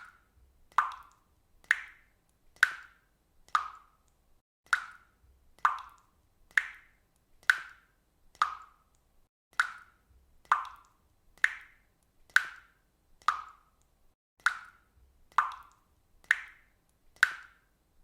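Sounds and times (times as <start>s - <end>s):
water dripping: 0.0s - 17.8s.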